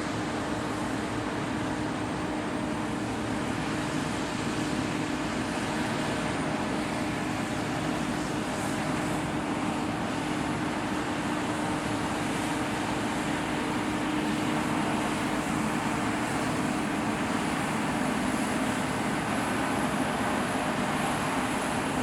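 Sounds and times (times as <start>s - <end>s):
combine harvester drone: 0.0s - 22.0s.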